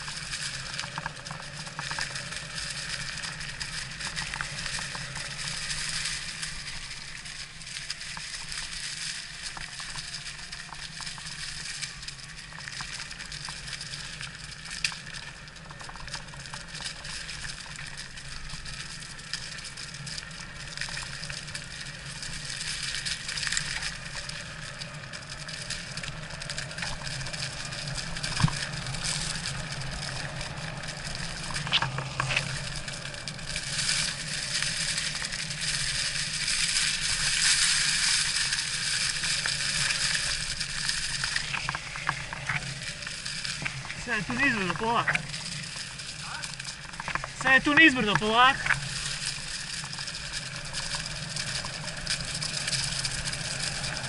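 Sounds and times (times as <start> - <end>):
bike clicks and rattles: 0.0 - 54.0
tyres crunching over gravel: 0.0 - 54.0.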